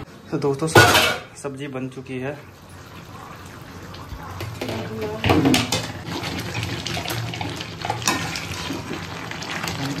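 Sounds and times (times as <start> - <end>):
steady kitchen hiss: 0.0 - 10.0.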